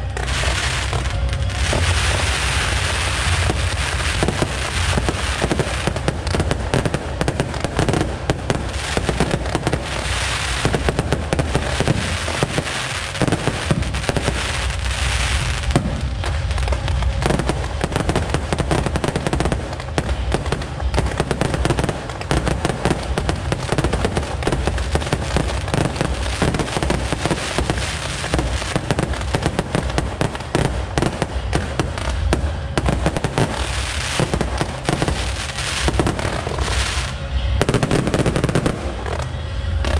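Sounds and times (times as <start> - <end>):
fireworks fizzing and crackling: 0.0 - 39.9.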